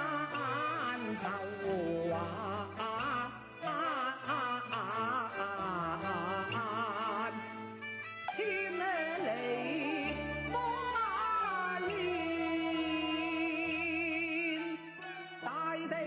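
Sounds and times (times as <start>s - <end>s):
opera singing with vibrato: 0.0s - 7.7s, 8.3s - 16.0s.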